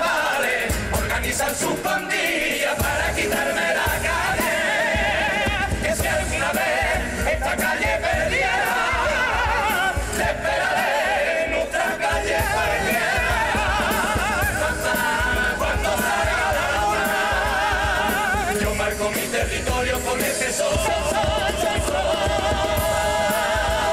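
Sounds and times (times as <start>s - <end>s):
chorus singing in parts: 0.0s - 23.9s
drums keeping the beat: 0.0s - 23.9s
guitars: 0.0s - 23.9s.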